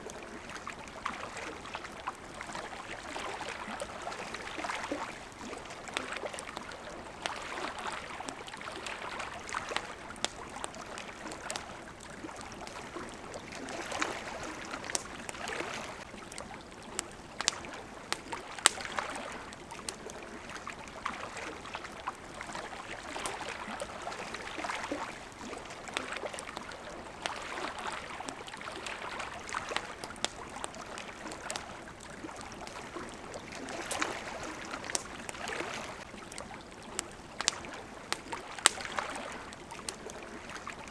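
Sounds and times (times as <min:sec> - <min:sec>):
campfire crackling: 0:00.0 - 0:40.9
water lapping in small waves: 0:00.0 - 0:40.9.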